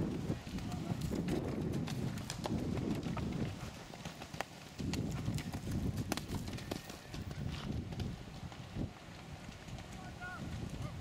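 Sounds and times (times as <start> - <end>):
horse hooves thudding on turf: 0.0 - 11.0.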